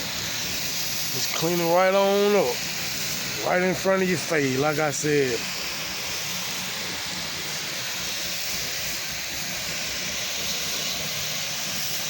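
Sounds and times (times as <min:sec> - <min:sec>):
pressure washer spray hiss: 0:00.0 - 0:12.0.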